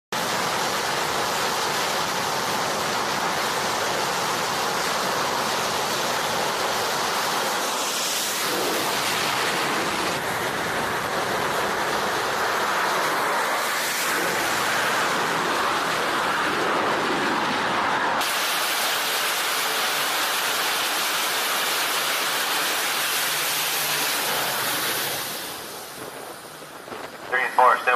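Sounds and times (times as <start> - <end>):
jet engine roaring: 0.2 - 27.9
jet passing hiss: 3.0 - 27.9.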